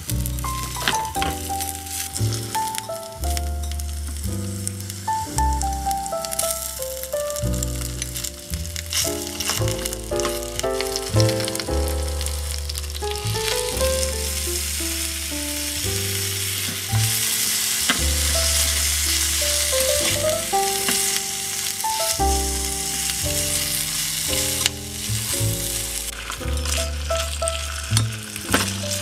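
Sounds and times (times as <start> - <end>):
food sizzling in oil: 0.0 - 29.0.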